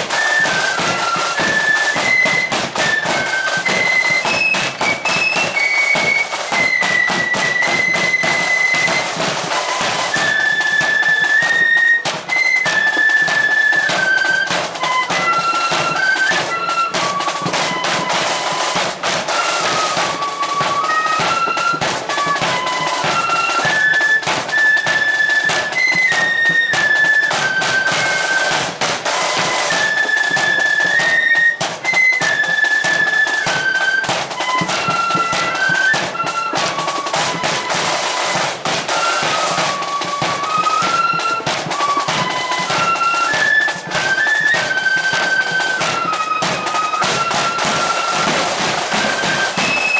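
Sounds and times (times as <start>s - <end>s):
drums beating steadily: 0.0s - 49.9s
flutes playing in unison: 0.0s - 49.9s.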